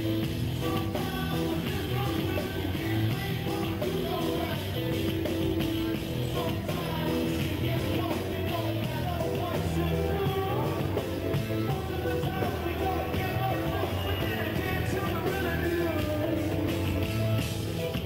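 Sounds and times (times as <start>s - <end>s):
live rock band playing: 0.0s - 18.0s
person singing: 0.0s - 18.0s.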